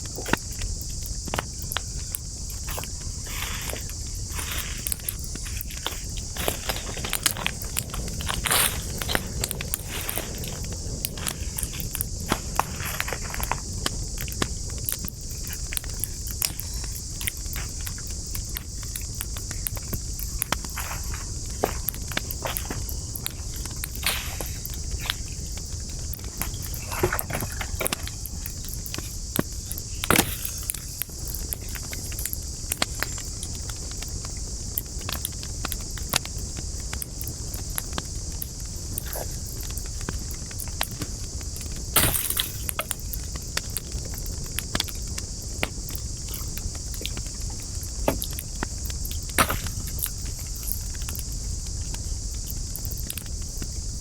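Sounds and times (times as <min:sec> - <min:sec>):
campfire wood crackling and popping: 0:00.0 - 0:54.0
high hiss: 0:00.0 - 0:54.0
low rumble of flame: 0:00.0 - 0:54.0.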